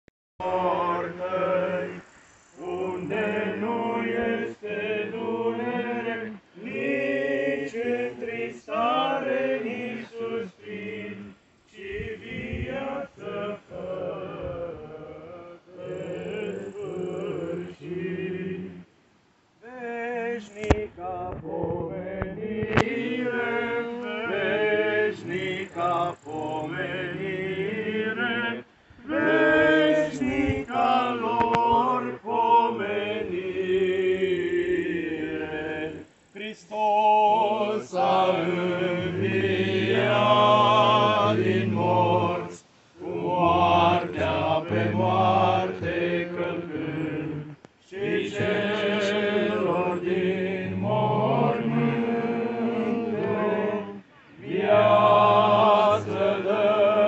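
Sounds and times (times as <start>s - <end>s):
men chanting a hymn: 0.4s - 18.9s, 19.6s - 57.0s.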